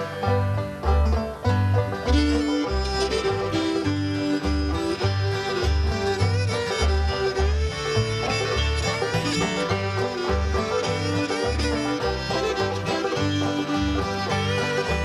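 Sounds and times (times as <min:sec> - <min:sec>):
string band playing: 0:00.0 - 0:15.0.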